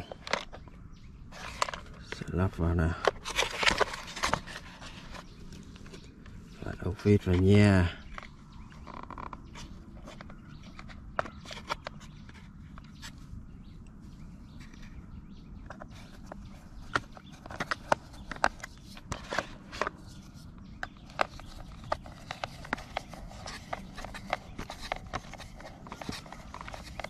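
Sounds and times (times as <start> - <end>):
background noise: 0.0 - 27.0.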